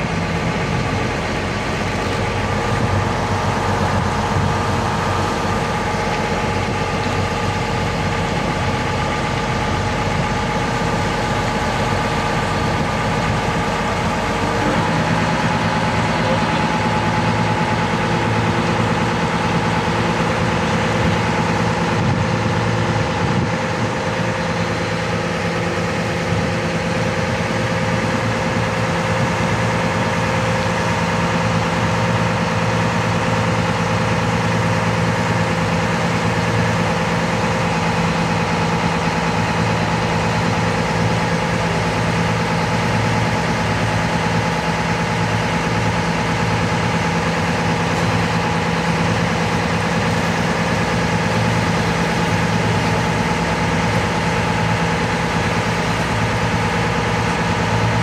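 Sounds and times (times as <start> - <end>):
ferry engine drone: 0.0 - 58.0.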